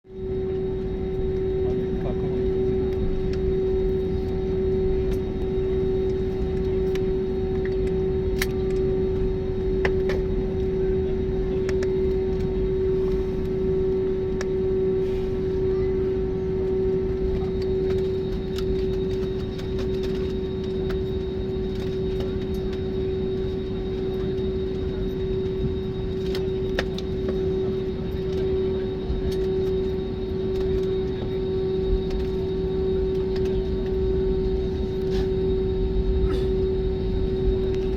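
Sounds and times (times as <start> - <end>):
airliner engine and airflow rush: 0.0 - 37.9
constant hum tone: 0.0 - 37.9.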